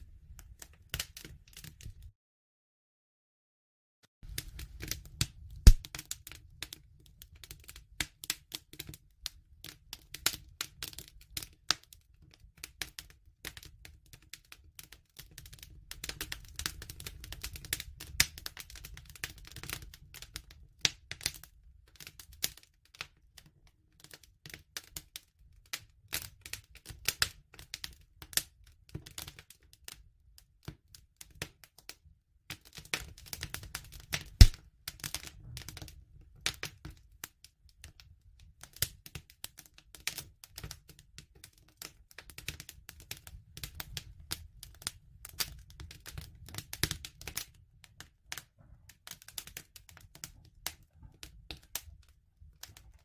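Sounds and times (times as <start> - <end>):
bonfire crackling and popping: 0.2 - 2.1, 4.2 - 53.0.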